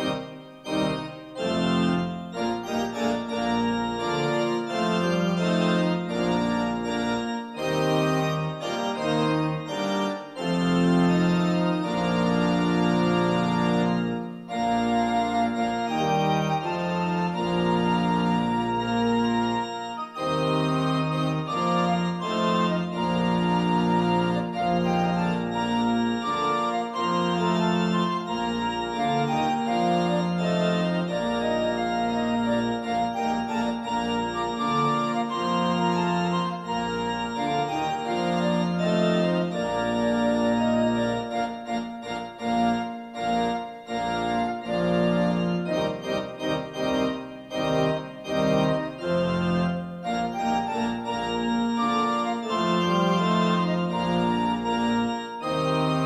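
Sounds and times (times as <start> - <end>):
electronic organ playing hymn: 0.0 - 56.0.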